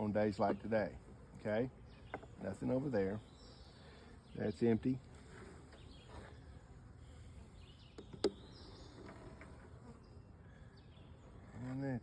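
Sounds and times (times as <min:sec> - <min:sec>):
honeybees buzzing: 0:00.0 - 0:11.5.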